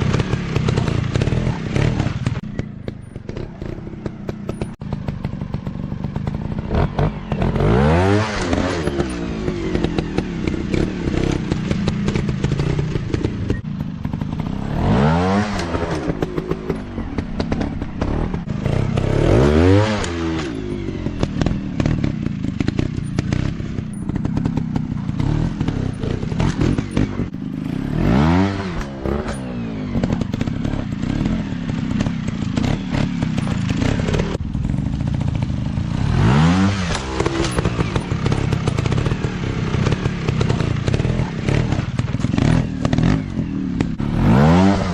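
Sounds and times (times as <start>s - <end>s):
clatter: 0.0s - 44.9s
dirt bike engines revving: 0.0s - 44.9s.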